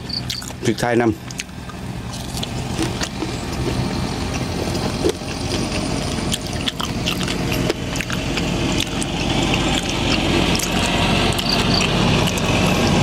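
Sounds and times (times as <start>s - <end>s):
chewing crispy food: 0.0s - 13.0s
steady low hum: 0.0s - 13.0s.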